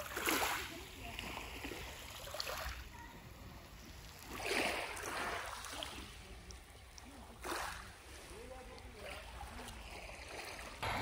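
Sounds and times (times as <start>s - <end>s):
water washing: 0.0s - 11.0s.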